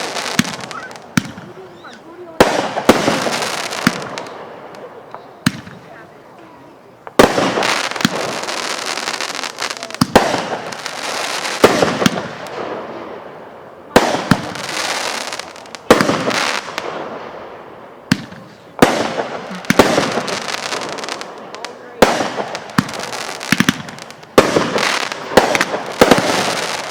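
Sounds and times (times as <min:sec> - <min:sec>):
fireworks bangs with crackling: 0:00.0 - 0:26.9.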